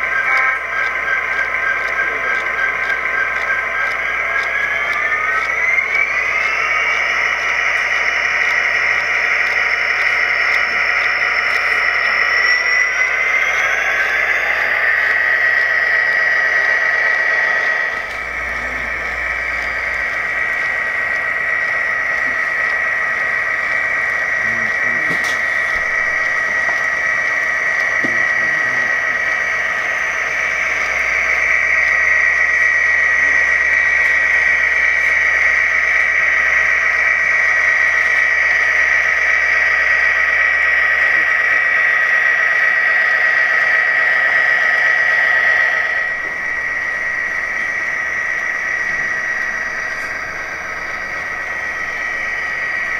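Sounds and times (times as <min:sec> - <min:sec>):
model train diesel sound: 0:00.0 - 0:52.9.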